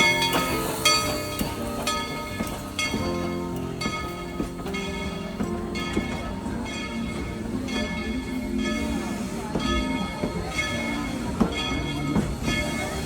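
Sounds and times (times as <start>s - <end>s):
locomotive bell ringing: 0.0s - 13.0s
train rumbling: 0.0s - 13.0s.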